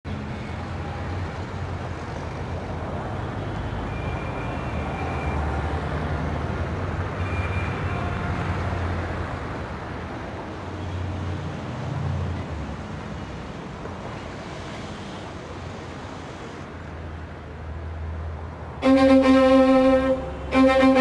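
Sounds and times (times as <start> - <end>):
traffic drone: 0.0 - 21.0.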